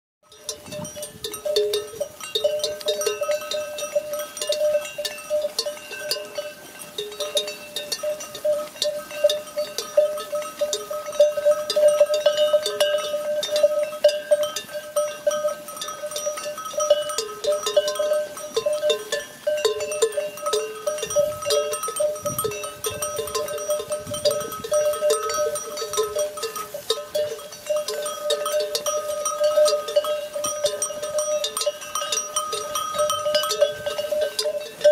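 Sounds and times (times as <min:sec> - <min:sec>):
sheep bells clanking: 0:00.2 - 0:34.9.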